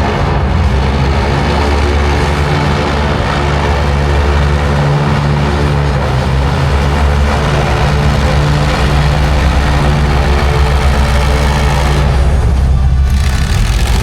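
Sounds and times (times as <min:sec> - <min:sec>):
jet ski engines droning: 0:00.0 - 0:14.0.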